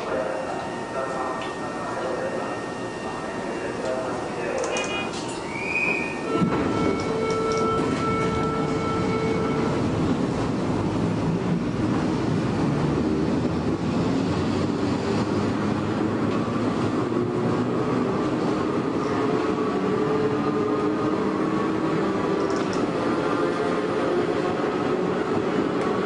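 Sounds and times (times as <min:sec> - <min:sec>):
train wheels rumbling on rails: 0:03.0 - 0:26.0.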